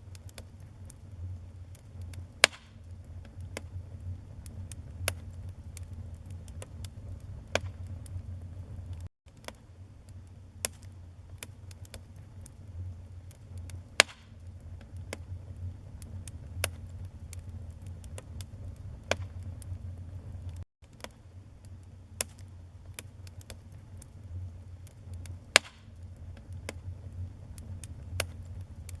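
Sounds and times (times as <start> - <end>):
low steady rumble: 0.0 - 20.6, 21.2 - 29.0
wood fire crackling and popping: 0.0 - 29.0.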